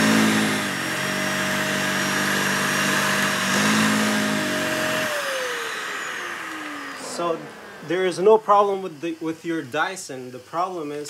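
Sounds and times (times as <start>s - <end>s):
upright vacuum cleaner running: 0.0s - 9.7s.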